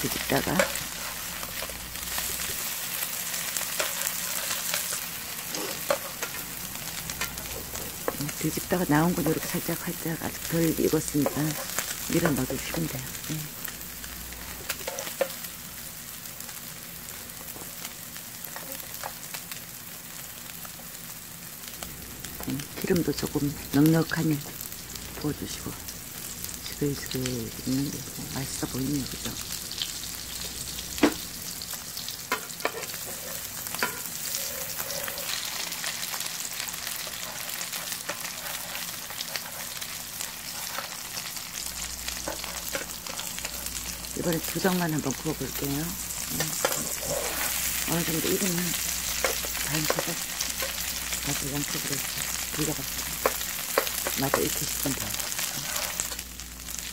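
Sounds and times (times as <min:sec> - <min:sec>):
pancakes sizzling in oil: 0:00.0 - 0:56.9.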